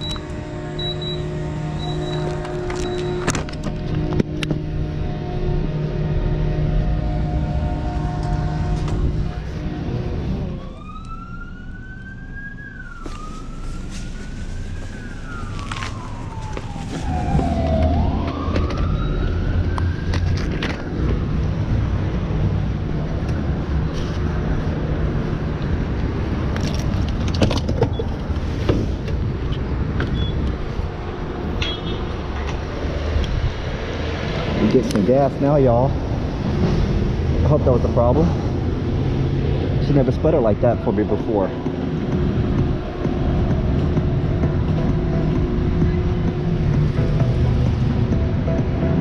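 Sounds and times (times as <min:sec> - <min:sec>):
emergency vehicle siren wailing: 0:00.0 - 0:26.9, 0:28.0 - 0:49.0
low vehicle rumble: 0:00.0 - 0:49.0.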